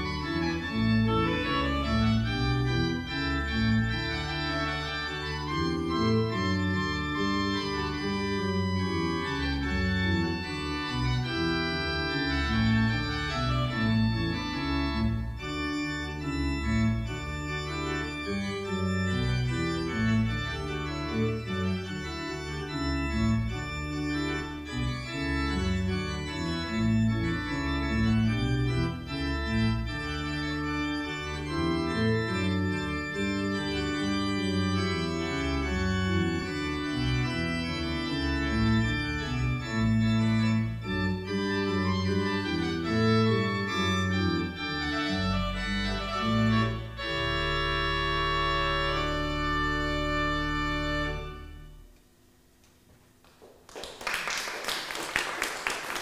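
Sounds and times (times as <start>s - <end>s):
pipe organ playing: 0.0s - 52.4s.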